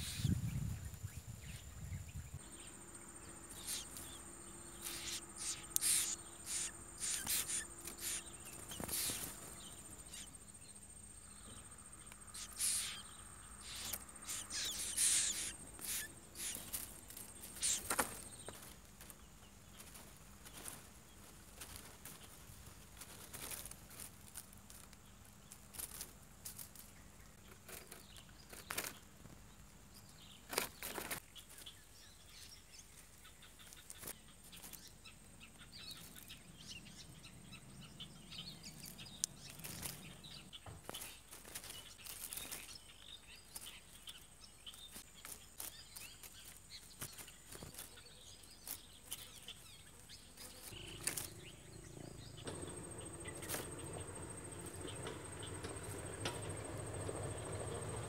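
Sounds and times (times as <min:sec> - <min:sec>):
faint high bird chirps: 0:00.0 - 0:20.8, 0:29.9 - 0:58.0
grass rustling and crackling: 0:02.3 - 0:10.4, 0:12.1 - 0:29.7, 0:30.4 - 0:37.1, 0:38.3 - 0:58.0.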